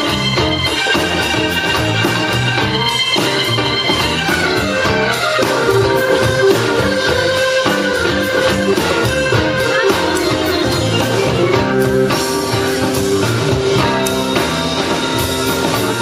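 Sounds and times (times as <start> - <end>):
bass guitar: 0.0 - 16.0
drums with steady beat: 0.0 - 16.0
electric guitar: 0.0 - 16.0
live blues band playing: 0.0 - 16.0.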